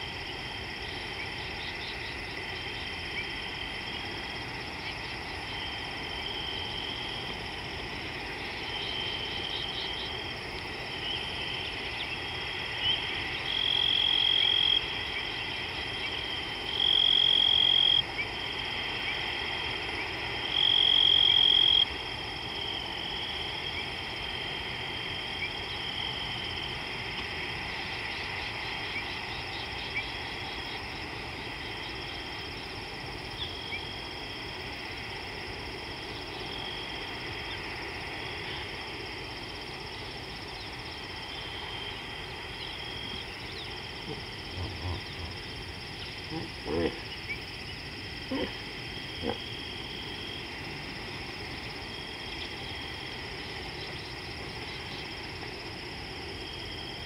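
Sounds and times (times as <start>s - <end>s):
frogs and insects chorus: 0.0s - 57.0s.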